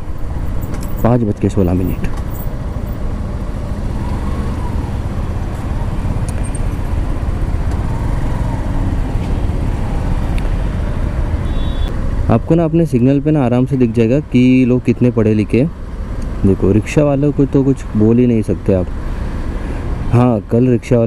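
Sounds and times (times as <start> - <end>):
motorcycle engine low rumble: 0.0 - 19.1
city traffic: 0.0 - 21.0.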